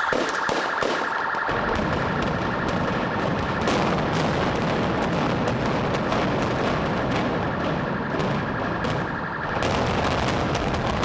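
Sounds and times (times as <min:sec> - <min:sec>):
car alarm pulsing tone: 0:00.0 - 0:11.0.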